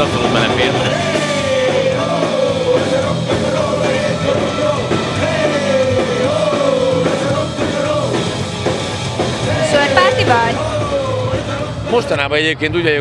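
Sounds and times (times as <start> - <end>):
rock band playing loudly: 0.0 - 12.4.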